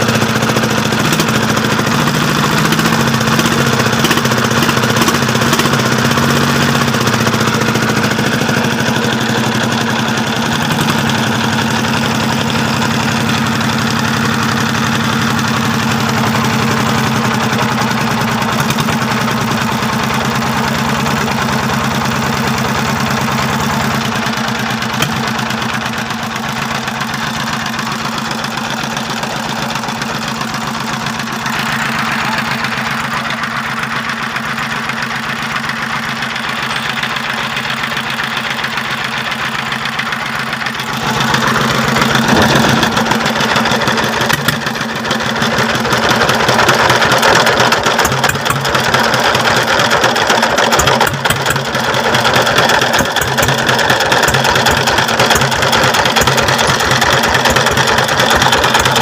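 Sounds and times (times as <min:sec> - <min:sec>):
diesel engine knocking: 0:00.0 - 0:59.0.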